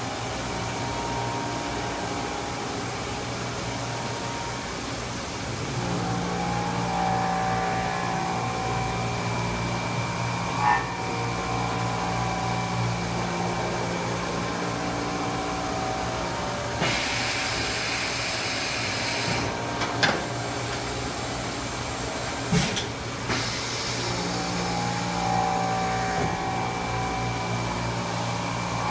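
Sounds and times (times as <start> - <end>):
machine humming with motor whine: 0.0 - 28.9.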